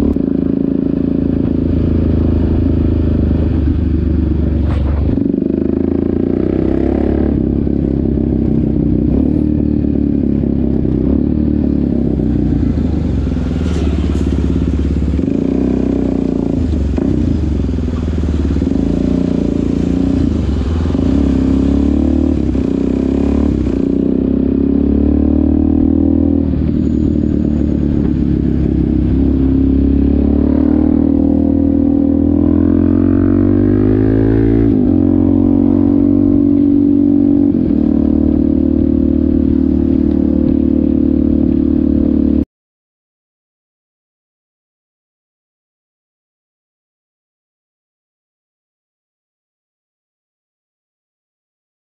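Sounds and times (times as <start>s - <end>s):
motorcycle engine and exhaust: 0.0s - 42.5s.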